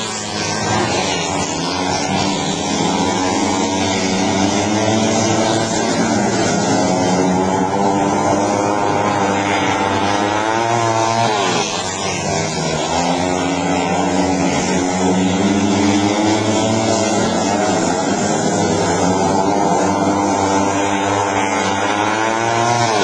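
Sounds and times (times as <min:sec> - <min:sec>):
motorcycles racing at high revs: 0:00.0 - 0:23.0.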